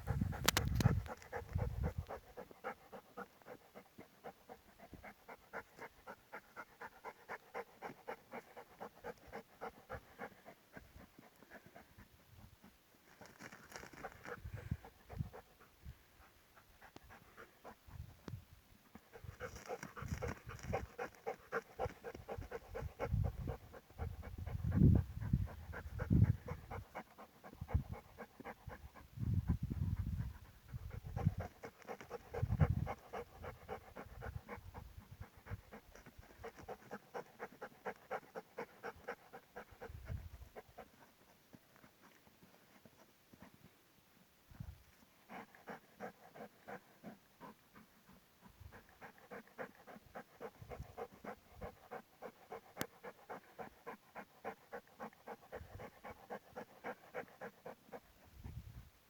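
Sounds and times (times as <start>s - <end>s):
dog panting: 0.0s - 43.8s, 44.5s - 58.6s.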